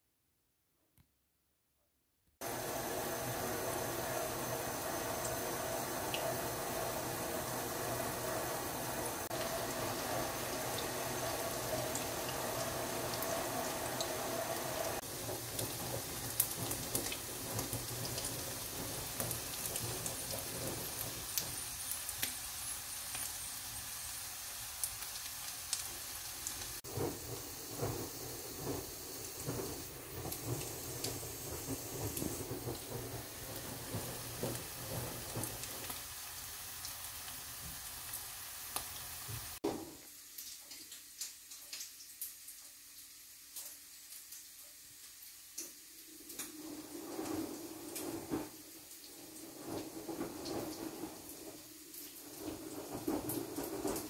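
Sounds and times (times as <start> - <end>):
food frying in oil: 2.4 - 54.0.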